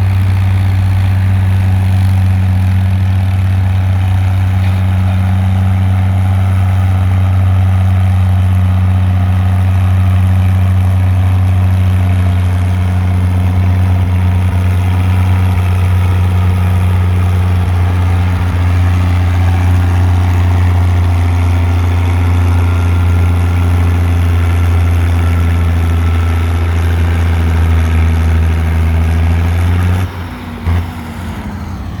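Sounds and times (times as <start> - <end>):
tractor engine droning: 0.0 - 32.0.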